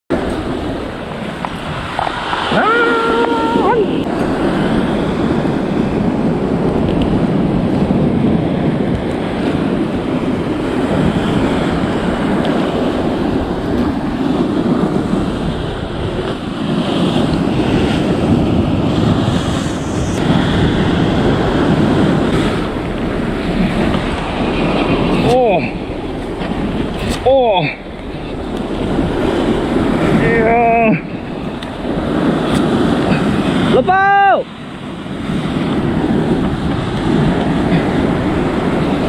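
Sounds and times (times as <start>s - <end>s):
sea water rushing: 0.1s - 39.0s
wind buffeting microphone: 0.1s - 39.0s.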